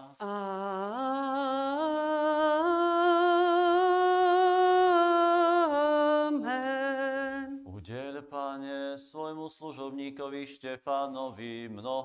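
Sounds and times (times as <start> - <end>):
person singing a chant: 0.0 - 12.0.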